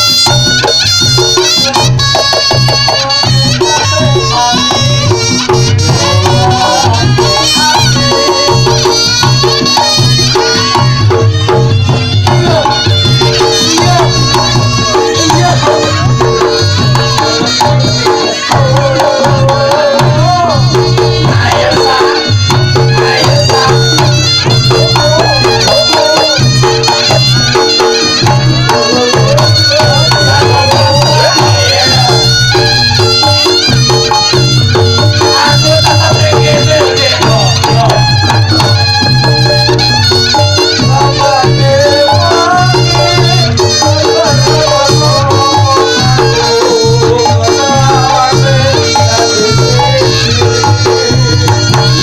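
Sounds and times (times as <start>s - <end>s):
repeating drum beat: 0.0s - 52.0s
wind instrument melody bending in pitch: 0.0s - 52.0s.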